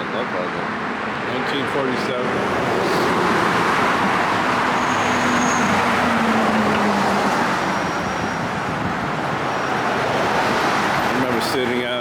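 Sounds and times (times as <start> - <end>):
vehicle engine hum: 0.0 - 11.8
passing cars: 0.0 - 12.0.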